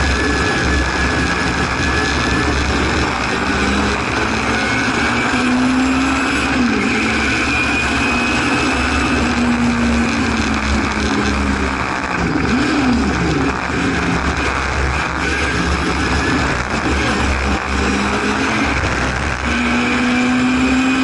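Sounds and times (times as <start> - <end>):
car engine at high revs: 0.0 - 21.0
wind and road noise: 0.0 - 21.0.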